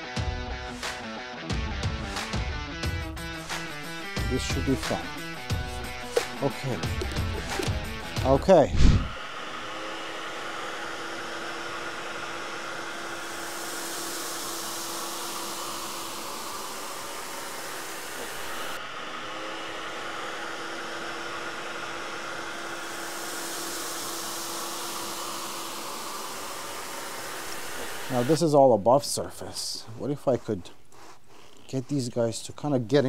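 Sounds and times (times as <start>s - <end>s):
stick vacuum running on rug: 3.5s - 33.0s.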